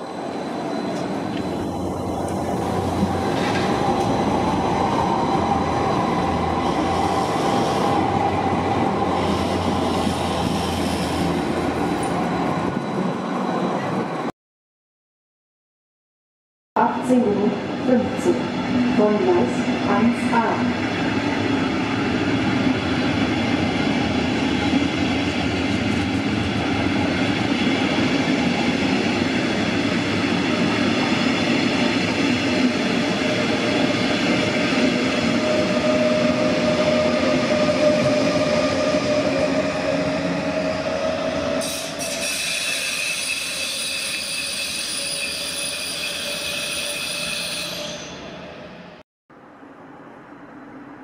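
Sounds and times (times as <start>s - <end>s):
train wheels rumbling on rail: 0.0s - 14.3s, 17.2s - 48.1s
train whining tones: 0.0s - 14.3s, 16.9s - 49.0s.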